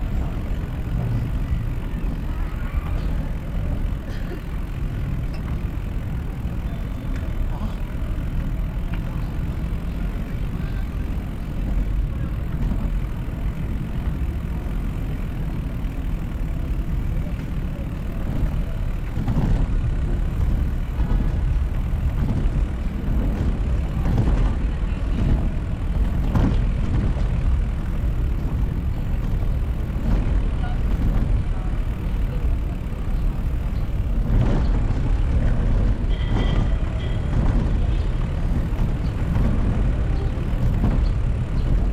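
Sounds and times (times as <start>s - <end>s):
motor vehicles passing: 0.0s - 41.9s
traffic rumble: 0.0s - 41.9s.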